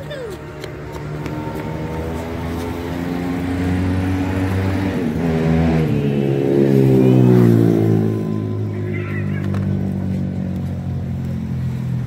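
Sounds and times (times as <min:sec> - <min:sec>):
vehicle engine running close by: 0:00.0 - 0:12.0.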